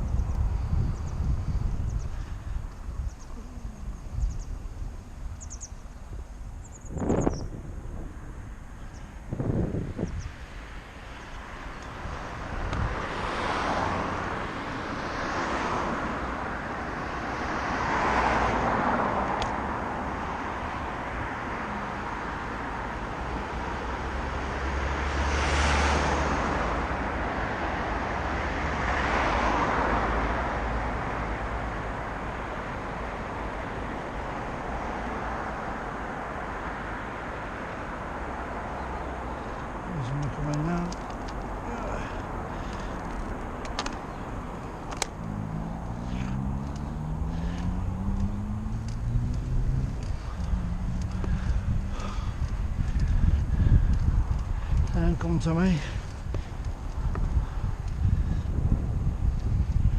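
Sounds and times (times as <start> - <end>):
steady road noise: 0.0 - 59.9
vehicles passing: 0.0 - 59.9.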